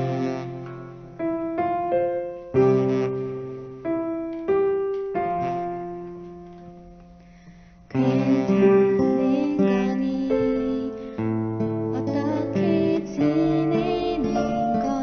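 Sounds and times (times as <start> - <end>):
piano chords ringing: 0.0 - 15.0.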